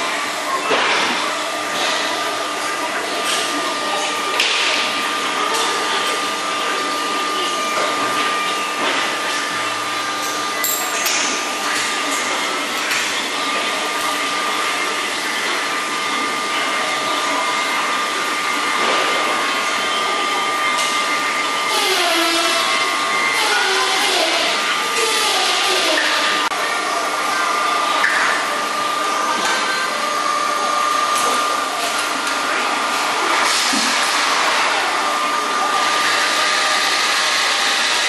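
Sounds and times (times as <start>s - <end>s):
blower machine whir: 0.0s - 38.0s.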